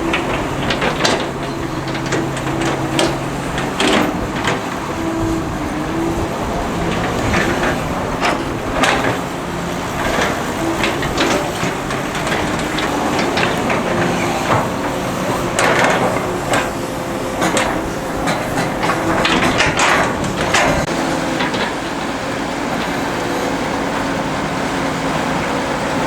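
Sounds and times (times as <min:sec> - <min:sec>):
metal clanks and knocks: 0:00.0 - 0:23.3
excavator diesel engine running: 0:00.0 - 0:26.0.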